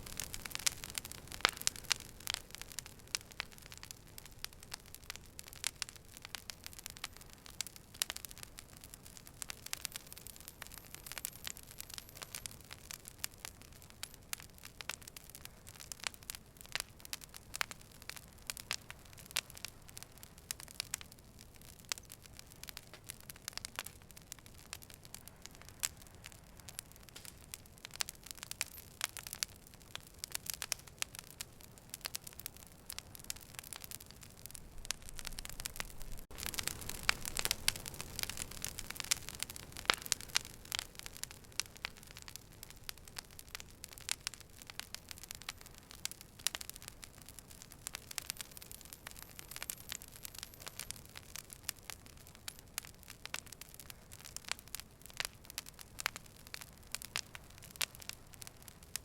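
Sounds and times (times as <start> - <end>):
fire crackling and popping: 0.0 - 59.0.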